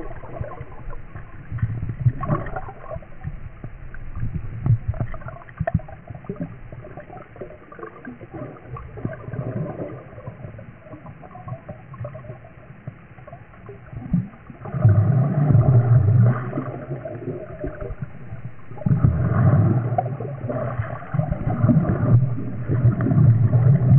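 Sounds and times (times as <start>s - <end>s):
underwater rumbling and gurgling: 0.0s - 23.9s.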